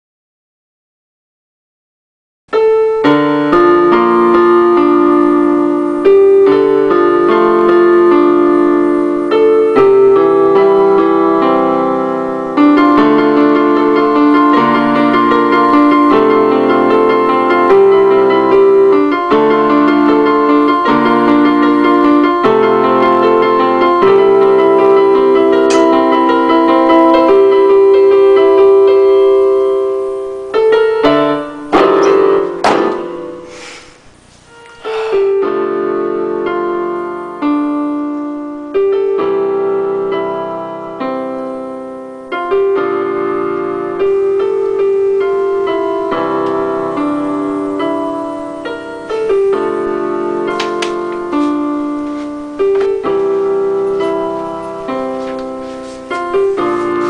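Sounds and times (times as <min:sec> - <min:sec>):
solo piano melody: 0:02.5 - 0:57.0.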